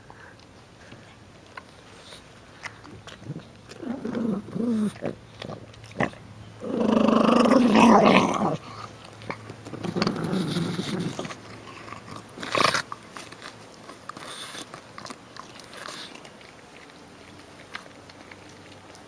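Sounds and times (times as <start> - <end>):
dog biting and chewing pumpkin: 0.0 - 19.0.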